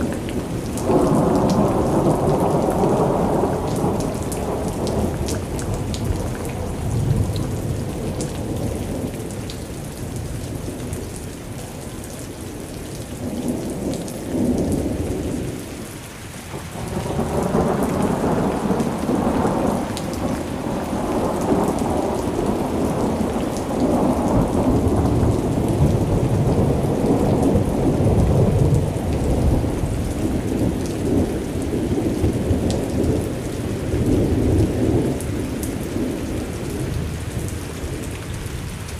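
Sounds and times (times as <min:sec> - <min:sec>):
rolling thunder: 0:00.0 - 0:09.2, 0:16.6 - 0:38.9
steady rain: 0:00.0 - 0:38.9.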